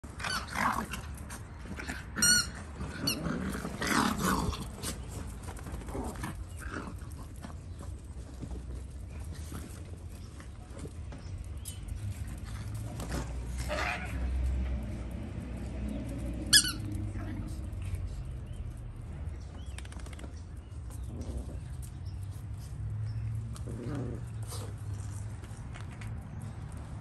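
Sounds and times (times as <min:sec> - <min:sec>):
dogs yipping and scuffling: 0:00.0 - 0:27.0.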